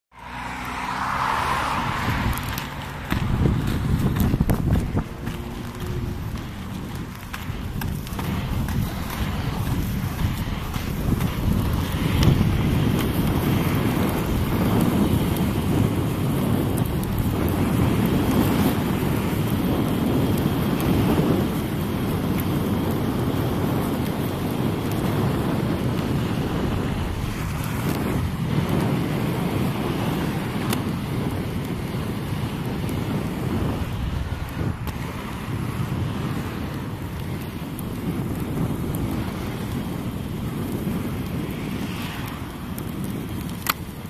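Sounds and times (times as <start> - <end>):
inline skate wheels rolling: 0.1 - 44.0
wind buffeting microphone: 0.1 - 44.0.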